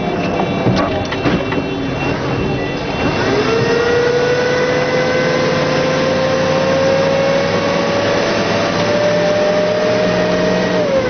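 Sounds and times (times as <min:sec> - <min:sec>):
high whine rising in pitch: 0:00.0 - 0:11.0
military vehicle engine and road noise: 0:00.0 - 0:11.0.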